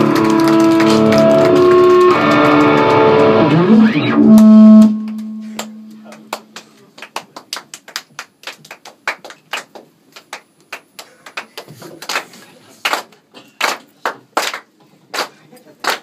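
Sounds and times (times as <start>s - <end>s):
audience hand claps: 0.0s - 3.7s, 4.3s - 16.0s.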